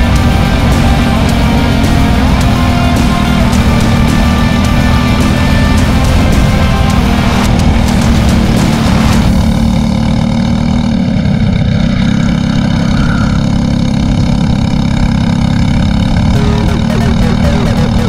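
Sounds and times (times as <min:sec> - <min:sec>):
kart engine running: 0:00.0 - 0:18.0.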